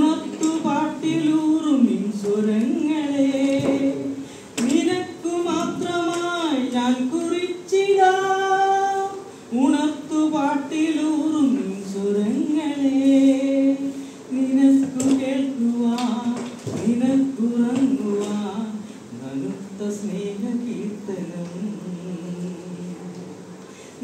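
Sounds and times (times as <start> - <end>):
man singing unaccompanied: 0.0 - 23.5.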